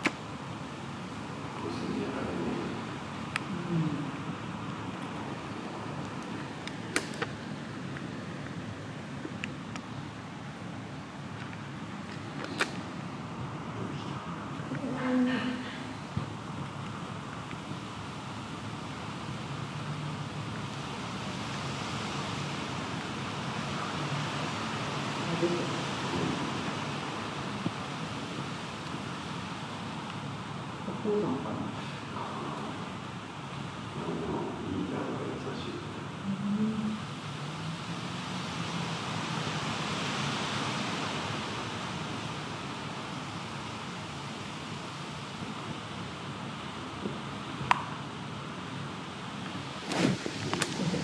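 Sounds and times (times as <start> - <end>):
rain: 0.0 - 51.0
wind: 0.0 - 51.0.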